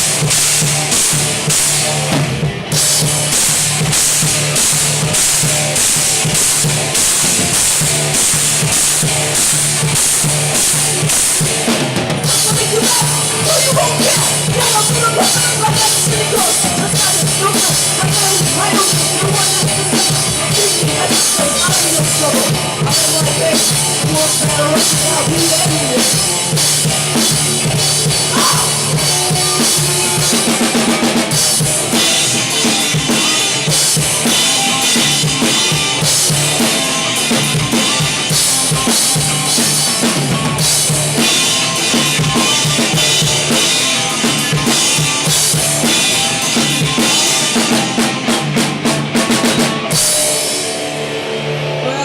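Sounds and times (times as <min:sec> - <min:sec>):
bass drum and snare: 0:00.0 - 0:50.4
live band playing: 0:00.0 - 0:52.0.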